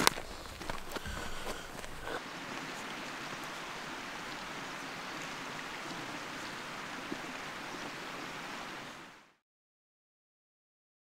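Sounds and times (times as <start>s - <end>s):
mountain creek rushing: 0.0s - 9.4s.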